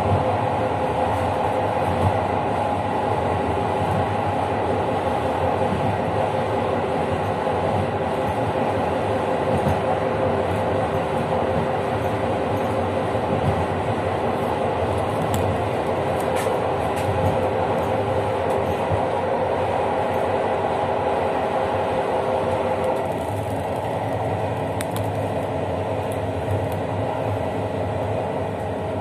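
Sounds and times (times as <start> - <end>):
train wheels rolling on rails: 0.0 - 29.0.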